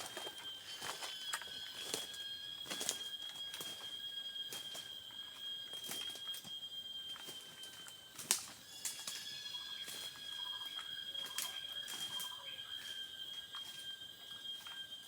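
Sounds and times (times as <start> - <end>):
high-pitched drone: 0.0 - 15.0.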